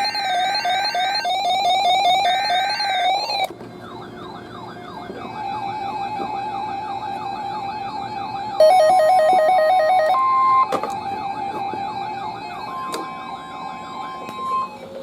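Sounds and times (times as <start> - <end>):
steady high tone: 0.0 - 3.5, 5.3 - 15.0
sweeping electronic siren: 0.0 - 15.0.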